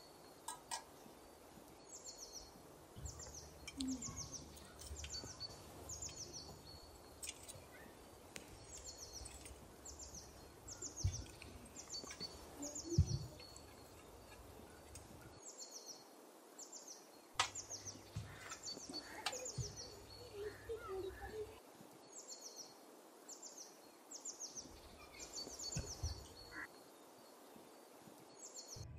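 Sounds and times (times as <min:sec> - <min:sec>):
small bird chirping: 0:00.0 - 0:27.4
faint outdoor background noise: 0:00.0 - 0:28.9.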